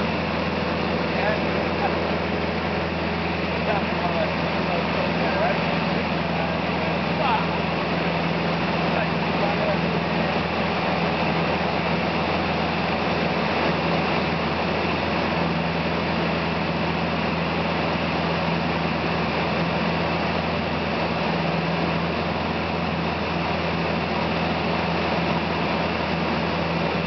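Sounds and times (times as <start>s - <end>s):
small plane engine and propeller: 0.0s - 27.0s.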